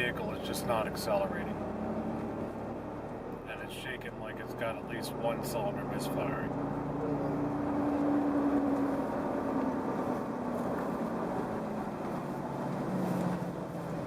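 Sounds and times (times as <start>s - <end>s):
road noise inside cab: 0.0s - 14.0s
truck engine at full throttle: 0.0s - 14.0s.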